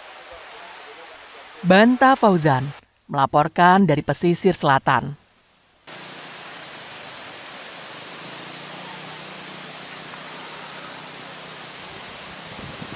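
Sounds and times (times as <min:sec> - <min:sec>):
steady hiss: 0:00.0 - 0:03.1, 0:05.3 - 0:12.9.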